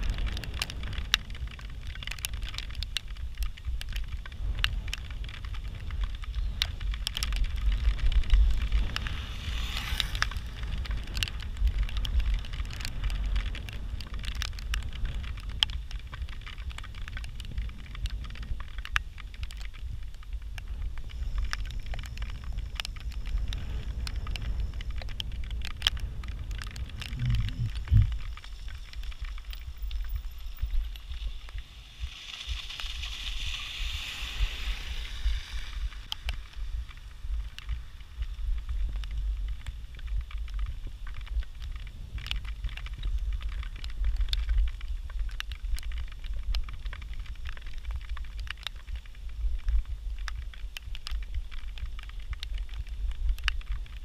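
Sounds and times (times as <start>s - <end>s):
bicycle ticking and rattling: 0.0s - 54.0s
wind rumbling on microphone: 0.0s - 54.0s.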